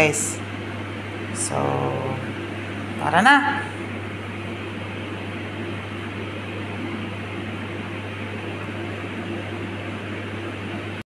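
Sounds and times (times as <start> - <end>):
ventilation fan humming: 0.0 - 11.0.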